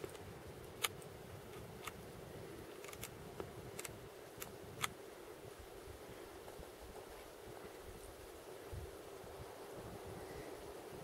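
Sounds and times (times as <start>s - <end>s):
faint steady hum and hiss: 0.0s - 11.0s.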